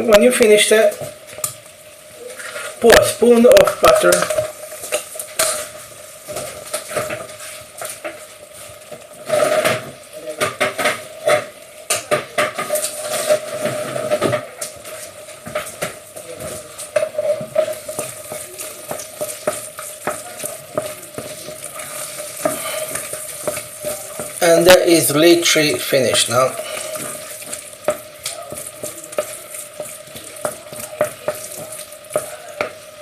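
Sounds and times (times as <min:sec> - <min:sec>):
light sizzle: 0:00.0 - 0:33.0
spoon scraping and knocking a pan: 0:02.4 - 0:08.2, 0:08.9 - 0:33.0.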